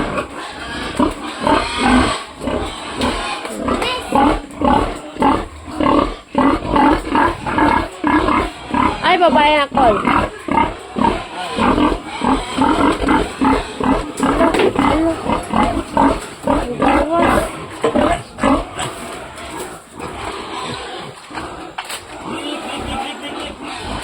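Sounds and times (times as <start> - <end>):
pigs grunting and squealing: 0.0 - 24.0.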